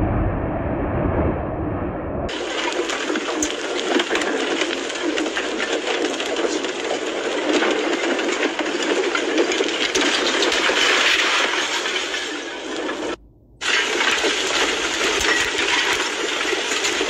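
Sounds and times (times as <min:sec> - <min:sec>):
fire crackling and clattering: 0:02.3 - 0:17.0.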